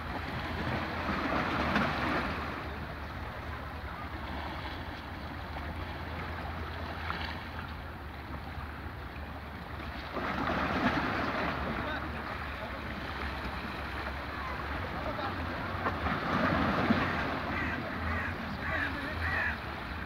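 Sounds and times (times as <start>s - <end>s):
waves lapping against rocks: 0.0s - 20.0s.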